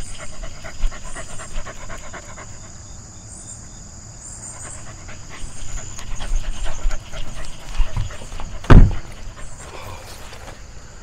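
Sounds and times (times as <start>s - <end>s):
dog panting: 0.0s - 3.2s, 4.4s - 10.5s
insects singing: 0.0s - 11.0s.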